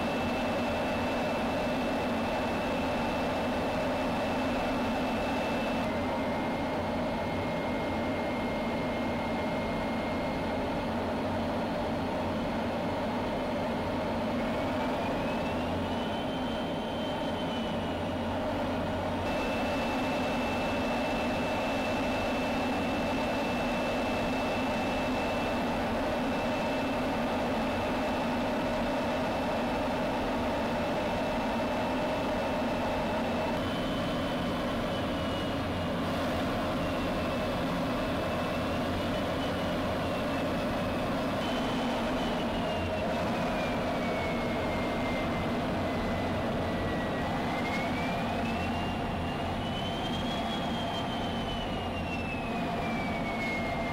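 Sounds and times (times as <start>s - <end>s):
high jet whine: 0.0s - 53.9s
jet engine roar: 0.0s - 53.9s.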